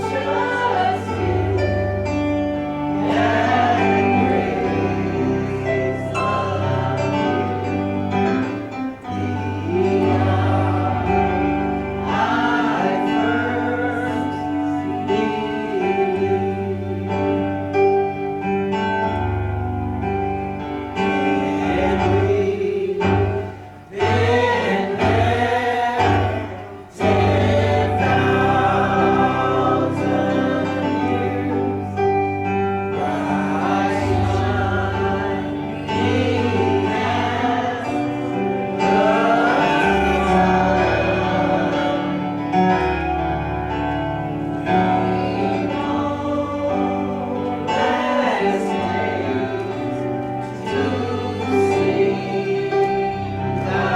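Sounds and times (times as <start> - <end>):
gospel choir singing: 0.0 - 53.9
instrumental accompaniment: 0.0 - 53.9.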